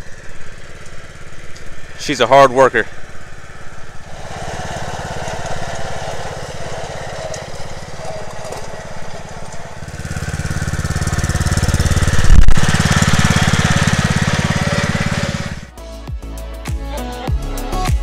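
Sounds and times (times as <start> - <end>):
riding lawn mower engine: 0.0 - 15.7.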